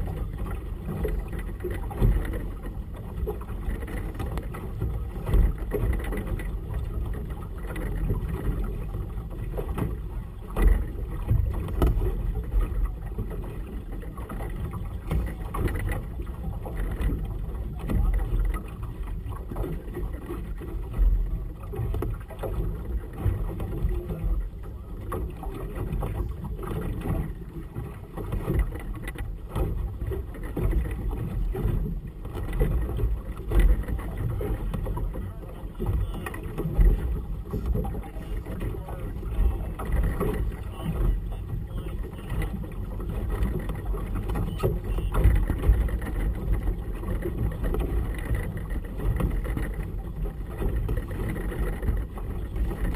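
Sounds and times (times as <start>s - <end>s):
water lapping against boat hull: 0.0s - 52.9s.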